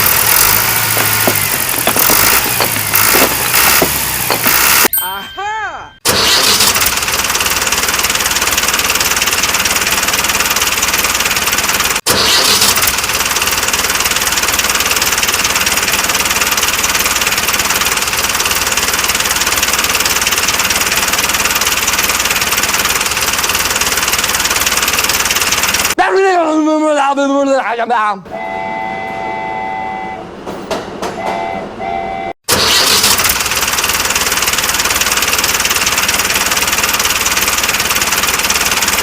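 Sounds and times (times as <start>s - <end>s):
tractor engine running: 0.0s - 5.0s, 6.1s - 26.0s, 30.3s - 39.0s.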